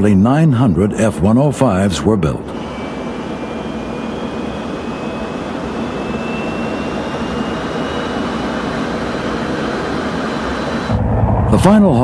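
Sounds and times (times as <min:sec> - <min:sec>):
high engine whine: 0:00.0 - 0:12.0
jet engine rush: 0:00.0 - 0:12.0.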